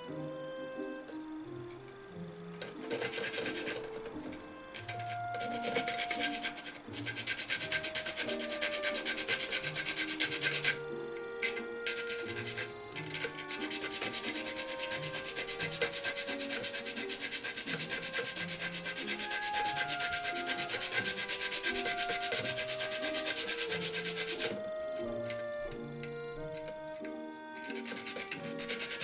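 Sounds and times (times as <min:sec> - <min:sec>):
quiet background music: 0:00.0 - 0:29.0
nutmeg rasping on metal grater: 0:02.6 - 0:25.5, 0:26.4 - 0:29.0.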